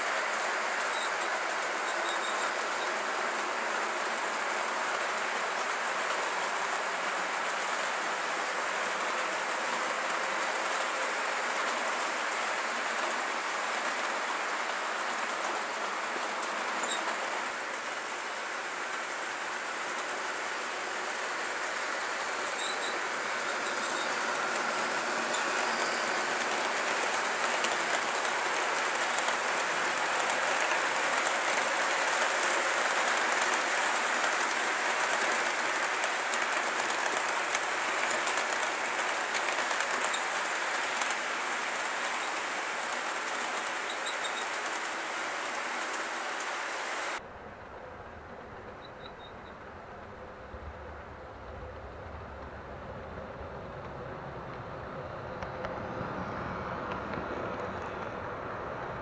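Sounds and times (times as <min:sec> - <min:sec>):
model train wheels rolling on rail: 0:00.0 - 0:59.0.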